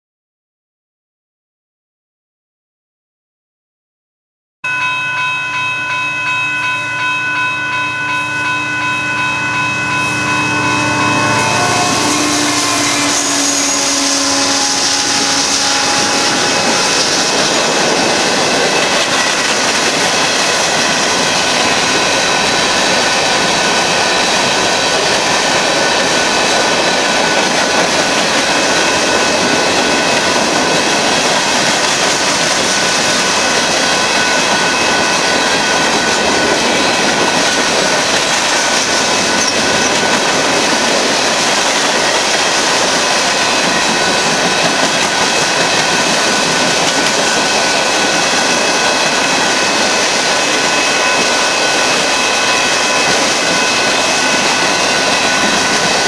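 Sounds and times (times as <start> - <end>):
diesel locomotives passing: 4.7 - 56.0
train wheels rolling on rails: 4.8 - 56.0.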